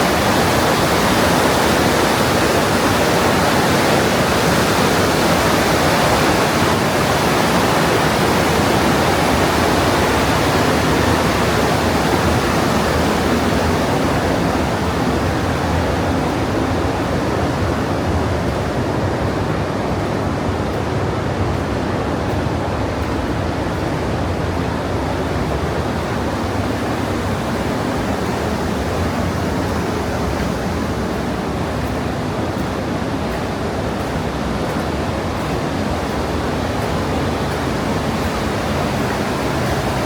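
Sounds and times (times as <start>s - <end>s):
mountain stream rushing: 0.0s - 40.0s.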